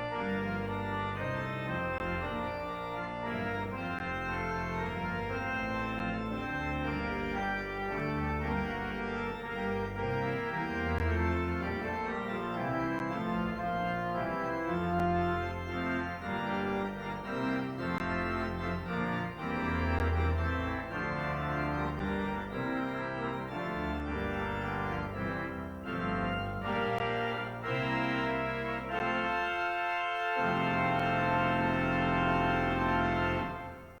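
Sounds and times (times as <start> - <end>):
organ chords: 0.0 - 34.0.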